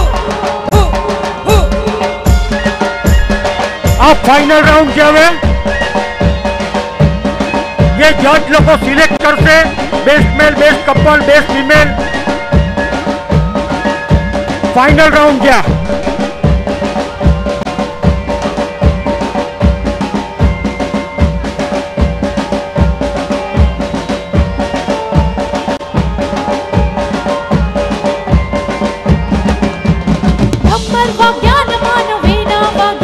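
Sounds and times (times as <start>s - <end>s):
wavering melody line: 0.0s - 31.7s
fast drum beat: 0.0s - 33.0s.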